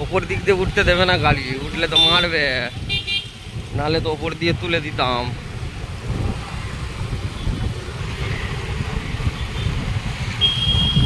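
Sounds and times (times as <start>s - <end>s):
road noise: 0.0s - 11.0s
road vehicle rumbling: 0.0s - 11.0s.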